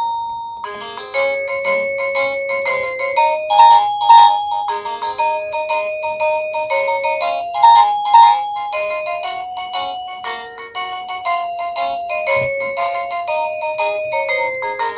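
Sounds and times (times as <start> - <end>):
electronic doorbell tune: 0.0 - 14.9.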